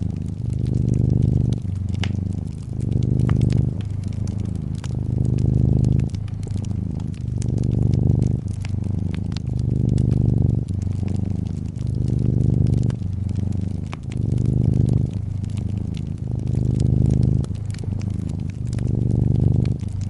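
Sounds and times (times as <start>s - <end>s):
cat purring: 0.0s - 20.0s
wood fire crackling: 0.0s - 20.0s.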